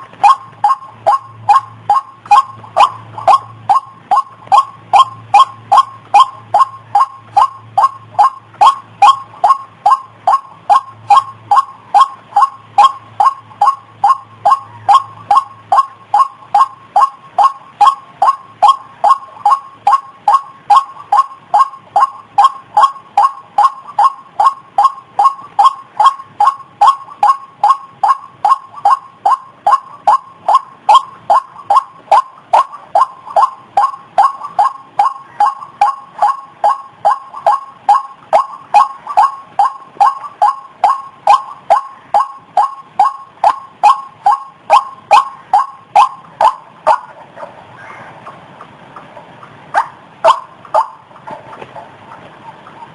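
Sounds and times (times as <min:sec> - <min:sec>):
waterhen calling: 0:00.0 - 0:52.9.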